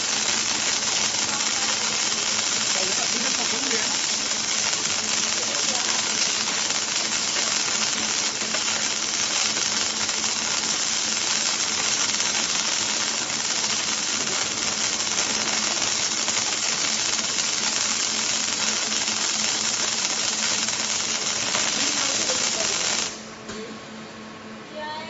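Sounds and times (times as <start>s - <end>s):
welding machine hissing: 0.0s - 23.4s.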